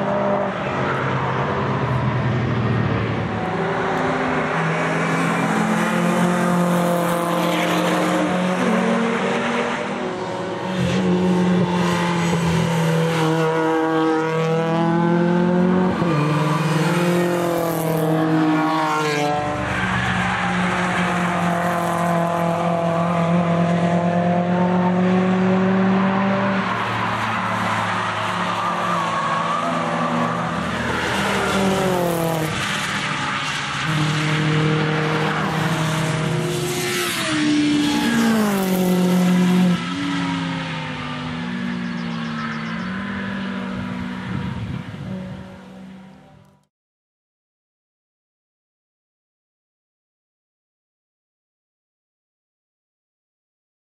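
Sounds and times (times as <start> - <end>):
race cars driving past: 0.0 - 46.6.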